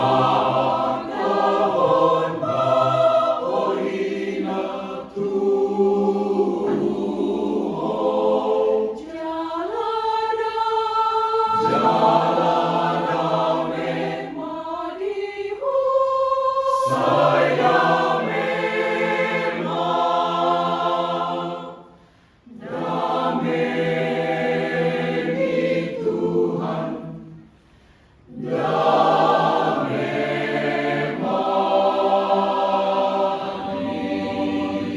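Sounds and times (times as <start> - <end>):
choir singing in harmony: 0.0 - 34.9.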